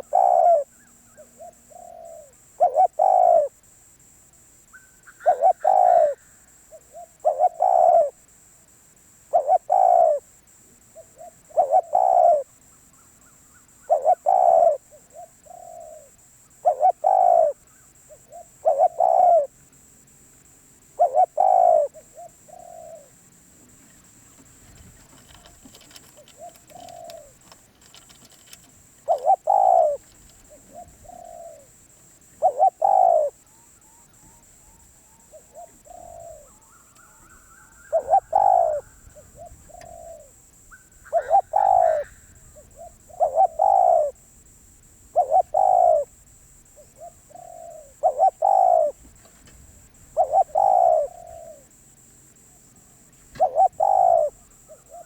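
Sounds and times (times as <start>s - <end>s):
dove cooing: 0.0s - 3.6s, 4.7s - 8.3s, 9.2s - 19.6s, 20.8s - 23.3s, 24.0s - 44.3s, 44.9s - 51.8s, 52.5s - 55.0s.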